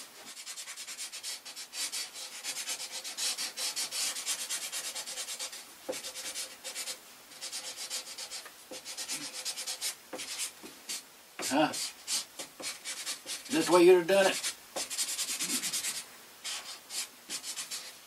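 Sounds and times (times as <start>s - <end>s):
marker pen scrubbing on door: 0.3s - 18.0s.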